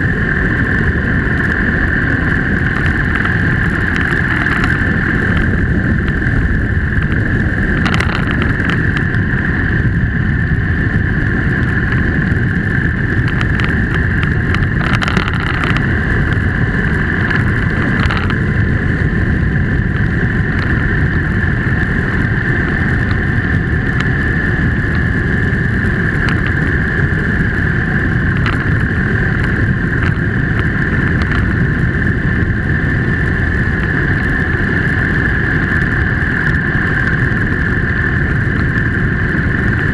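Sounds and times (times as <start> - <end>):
vehicle road and wind noise: 0.0 - 39.9.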